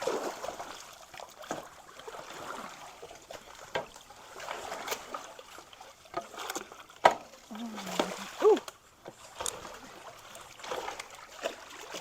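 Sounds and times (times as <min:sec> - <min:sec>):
creek water sloshing and splashing: 0:00.0 - 0:12.0.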